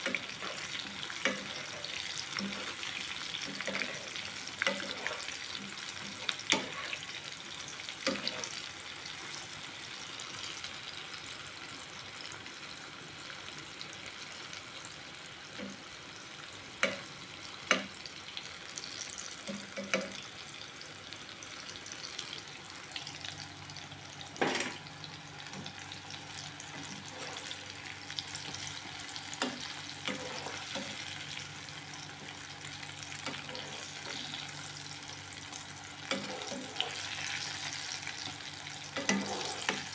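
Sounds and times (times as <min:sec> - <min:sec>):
eggplant sizzling in hot oil: 0:00.0 - 0:39.9.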